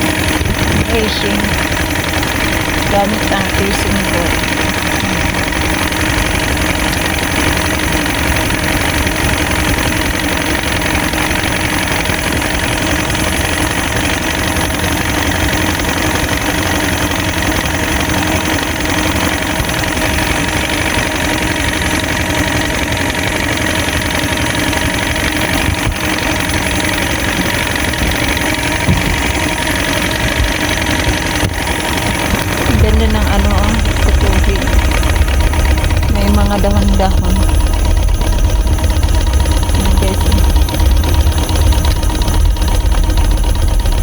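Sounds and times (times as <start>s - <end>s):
boat motor running: 0.0s - 44.0s.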